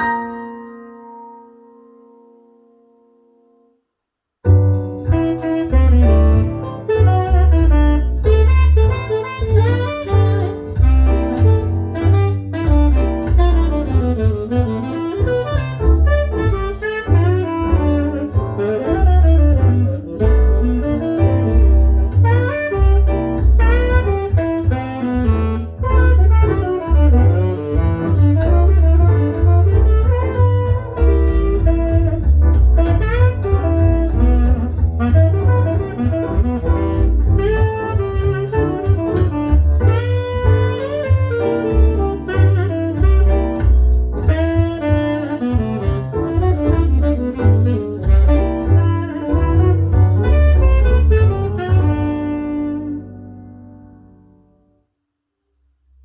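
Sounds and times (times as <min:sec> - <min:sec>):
jazz with saxophone: 0:00.0 - 0:01.6, 0:04.4 - 0:54.6
heavy bass line: 0:04.4 - 0:54.5.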